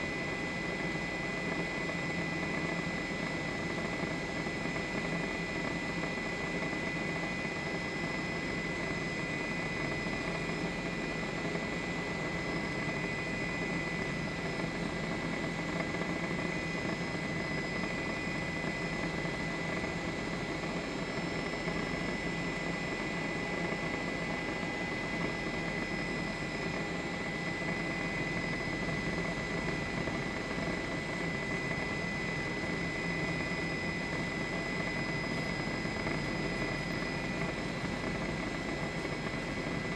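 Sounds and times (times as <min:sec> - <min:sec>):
helicopter engine and rotor: 0:00.0 - 0:39.9
high steady whine: 0:00.0 - 0:39.9.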